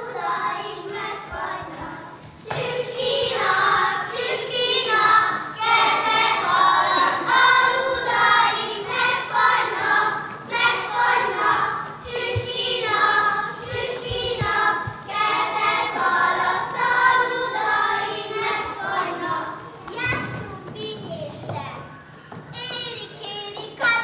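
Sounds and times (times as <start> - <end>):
children singing: 0.0 - 19.7.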